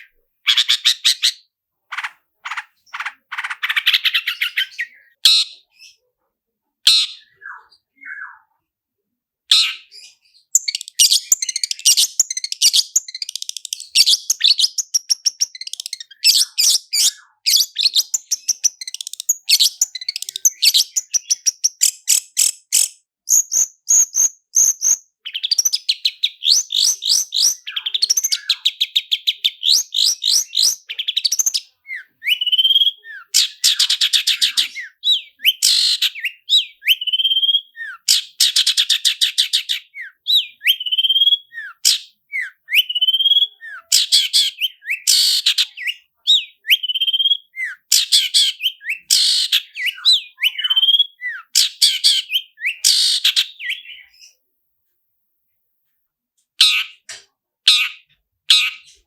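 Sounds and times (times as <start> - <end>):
bird singing trills: 0.0 - 6.0, 9.6 - 54.4.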